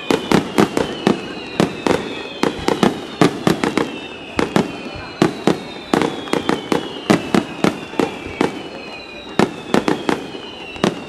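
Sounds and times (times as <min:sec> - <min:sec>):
fireworks bursting: 0:00.0 - 0:11.0
fireworks whistling: 0:00.0 - 0:11.0.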